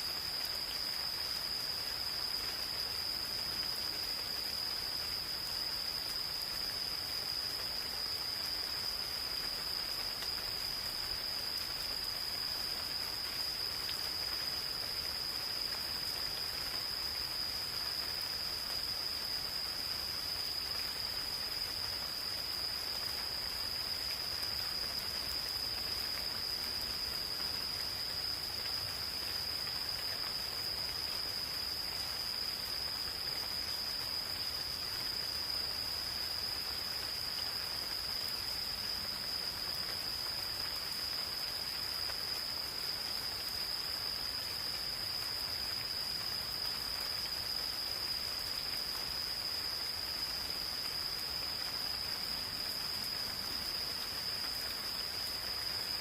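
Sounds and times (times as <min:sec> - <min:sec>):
gentle rain falling: 0:00.0 - 0:56.0
insects trilling: 0:00.0 - 0:56.0.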